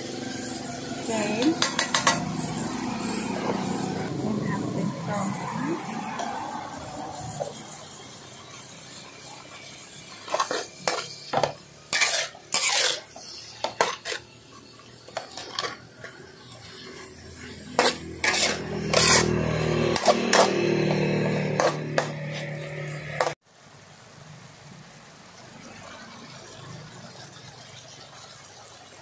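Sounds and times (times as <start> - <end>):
metal spatula scraping a wok: 0.0 - 23.4.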